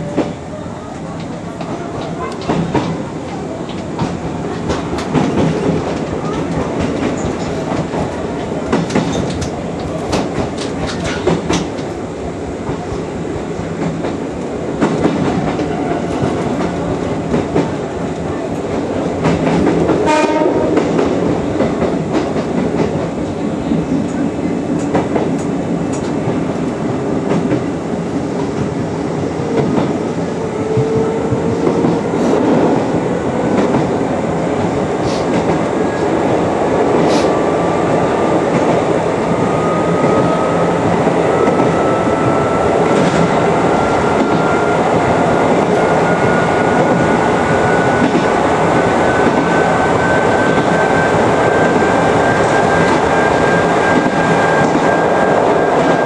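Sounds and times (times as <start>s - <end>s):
rail joint clicks: 0.0s - 12.0s, 12.6s - 27.7s, 29.4s - 34.0s, 34.6s - 36.2s, 38.4s - 55.1s.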